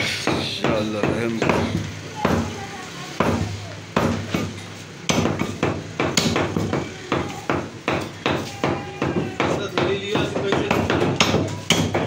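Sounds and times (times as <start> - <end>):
cleaver chopping meat and bone: 0.0 - 2.6, 3.2 - 12.0.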